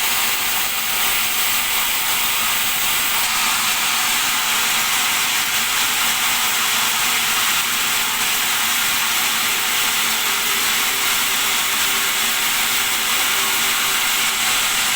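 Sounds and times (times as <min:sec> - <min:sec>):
bandsaw running: 0:00.0 - 0:14.9.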